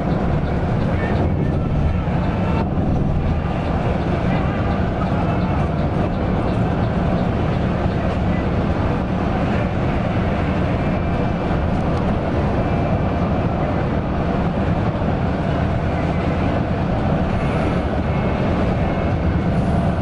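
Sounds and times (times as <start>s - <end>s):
coach engine rumble: 0.0s - 20.0s.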